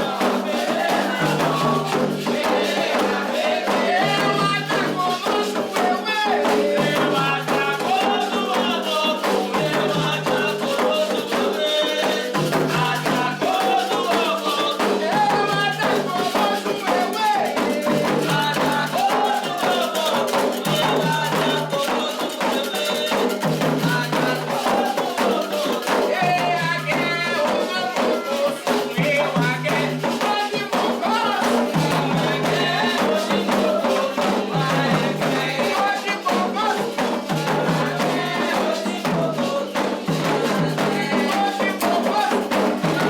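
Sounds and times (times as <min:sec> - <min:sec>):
drums and rattles: 0:00.0 - 0:43.0
voices singing a chant: 0:00.0 - 0:43.0.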